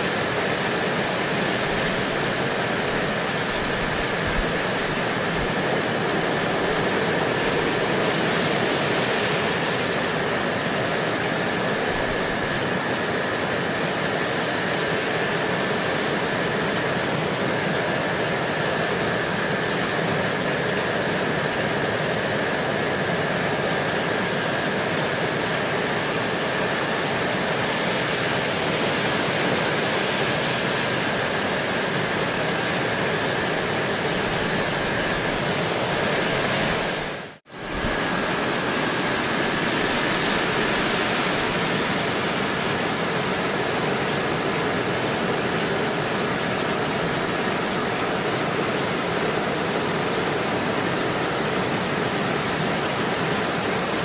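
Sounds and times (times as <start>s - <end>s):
gentle rain falling: 0.0s - 54.0s.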